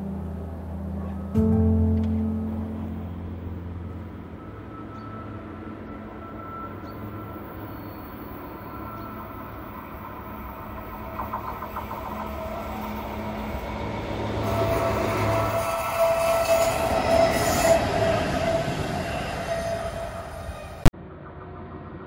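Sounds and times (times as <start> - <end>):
train rumbling: 0.0 - 22.0
wheels whining on curve: 3.1 - 22.0.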